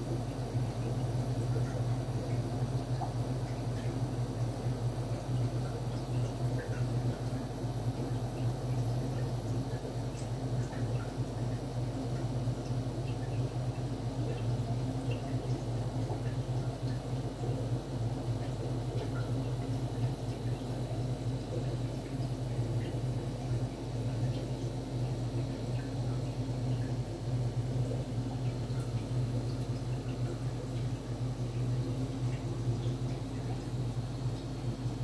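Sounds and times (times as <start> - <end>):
steady low hum: 0.0 - 35.0
water ticking and dripping: 0.0 - 35.0.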